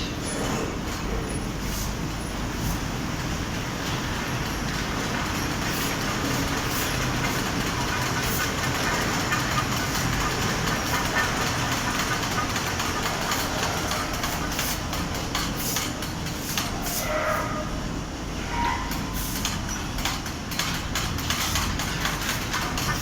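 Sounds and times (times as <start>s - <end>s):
fabric spreading machine running: 0.2s - 17.0s, 19.2s - 23.0s.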